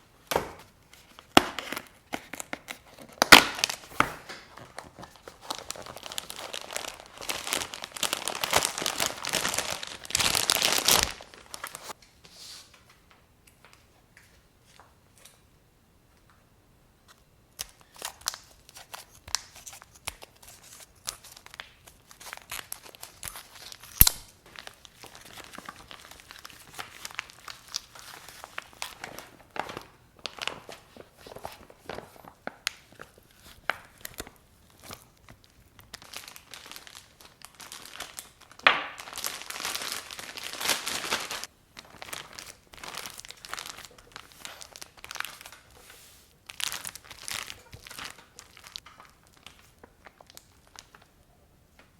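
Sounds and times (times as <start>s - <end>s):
food packaging crinkling: 0.9s - 12.0s, 17.6s - 51.2s.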